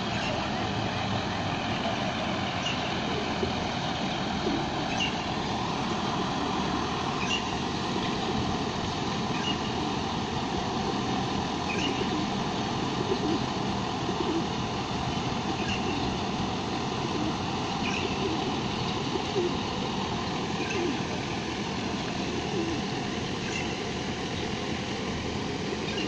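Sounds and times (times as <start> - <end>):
steady traffic noise: 0.0 - 26.0.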